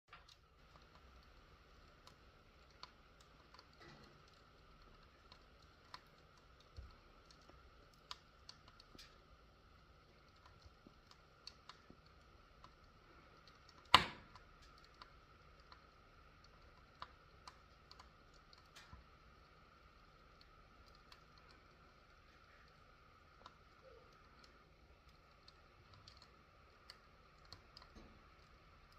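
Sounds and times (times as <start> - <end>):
fire popping: 0.1 - 28.9
wood fire crackling: 0.1 - 28.9.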